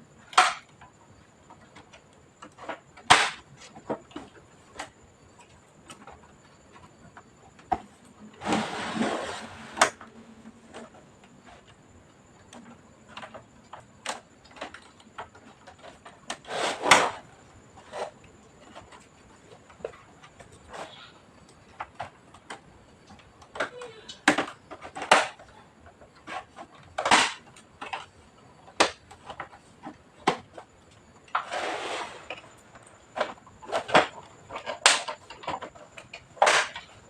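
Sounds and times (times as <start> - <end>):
scraping and rustling: 1.5 - 11.9, 12.5 - 37.0.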